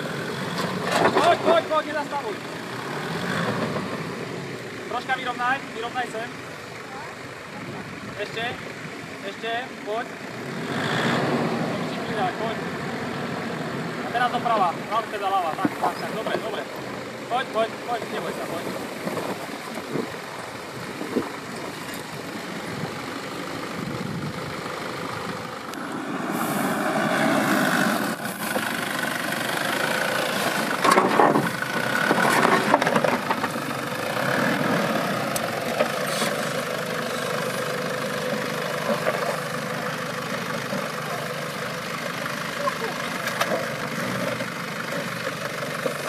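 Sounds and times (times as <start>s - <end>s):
off-road vehicle engine running: 0.0s - 46.0s.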